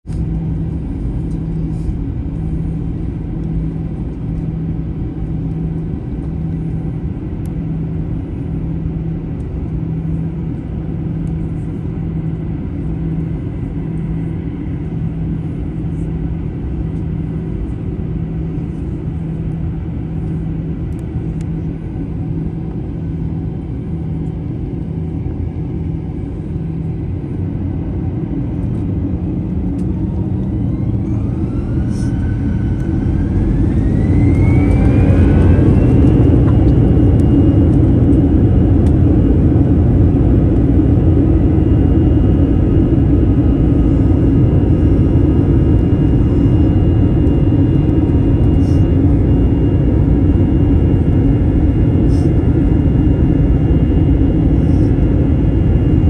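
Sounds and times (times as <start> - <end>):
aircraft cabin rumble: 0.0 - 56.0
constant hum: 0.0 - 56.0.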